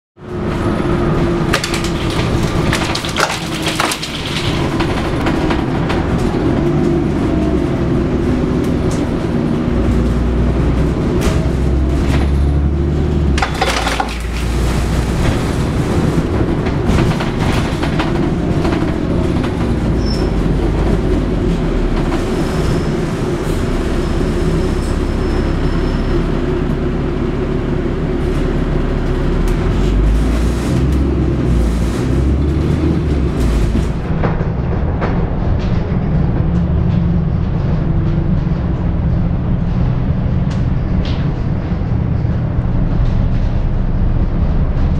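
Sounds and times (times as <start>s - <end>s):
bus body rattling and knocking: 0.2s - 44.9s
bus engine and road drone: 0.2s - 44.9s.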